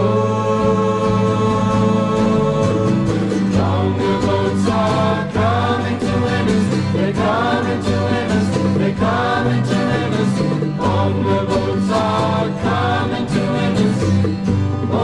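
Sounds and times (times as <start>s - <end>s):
instrumental backing with bass: 0.0s - 15.0s
vocal group singing in harmony: 0.0s - 15.0s.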